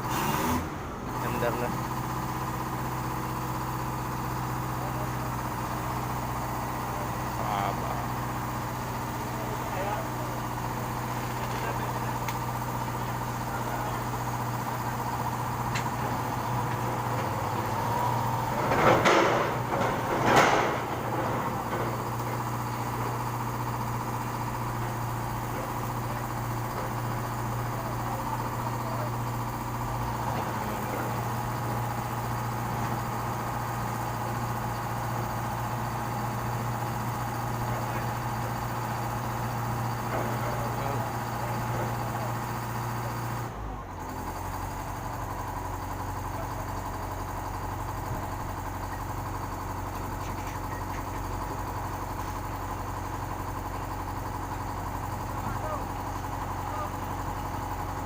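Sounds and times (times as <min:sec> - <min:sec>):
heavy equipment engine running: 0:00.0 - 0:58.0.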